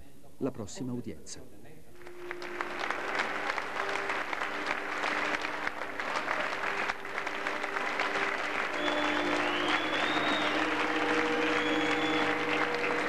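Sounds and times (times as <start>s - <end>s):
long steady notes: 1.9s - 13.0s
crowd applauding: 2.0s - 13.0s.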